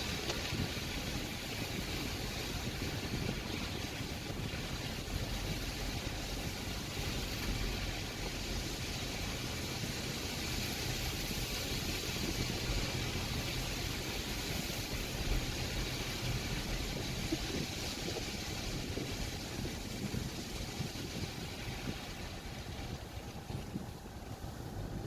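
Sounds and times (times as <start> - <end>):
street ambience rumble and hiss: 0.0 - 25.0.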